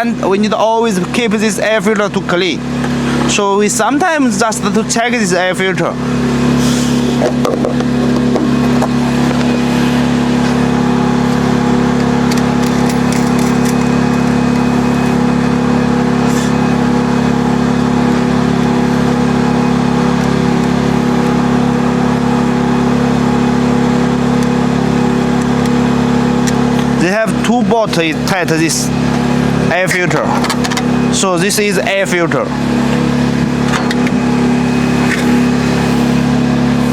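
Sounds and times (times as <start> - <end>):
engine humming steadily: 0.0 - 36.9.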